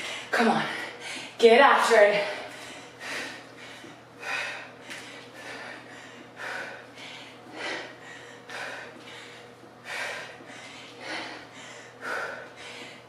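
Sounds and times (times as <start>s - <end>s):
woman breathing hard: 2.2s - 13.0s.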